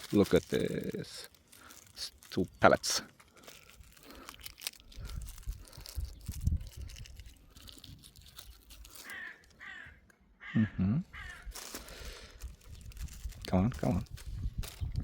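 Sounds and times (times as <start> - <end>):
packaging rustling: 0.0 - 9.6, 11.2 - 15.0.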